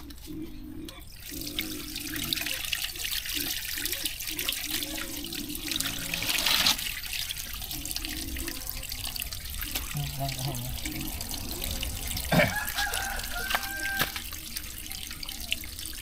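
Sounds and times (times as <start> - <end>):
shallow water splashing and trickling: 0.0 - 16.0.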